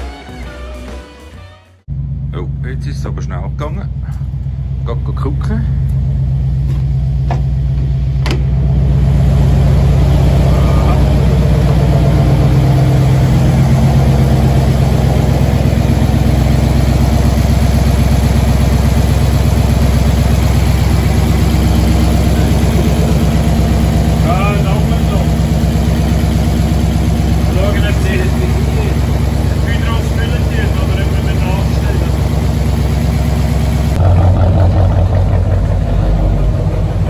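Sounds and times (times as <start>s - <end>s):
car engine running: 1.9s - 37.0s.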